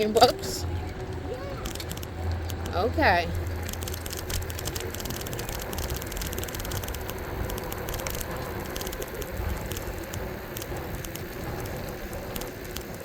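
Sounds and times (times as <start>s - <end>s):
crackling clicks: 0.0s - 13.0s
tyres rolling: 0.0s - 13.0s
wind buffeting microphone: 0.0s - 13.0s.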